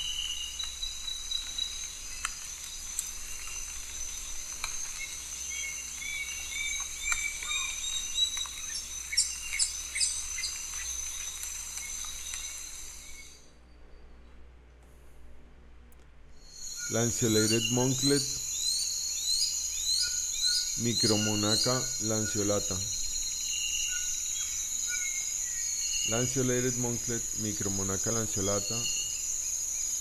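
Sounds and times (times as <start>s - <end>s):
bird whistled calls: 0.0s - 2.5s, 3.4s - 14.2s, 16.4s - 30.0s
high-pitched insect chorus: 0.0s - 13.6s, 16.4s - 30.0s.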